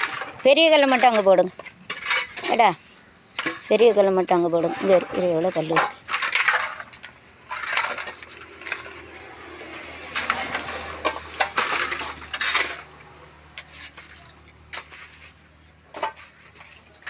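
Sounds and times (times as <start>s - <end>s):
stones scraping and clinking: 0.0s - 17.0s.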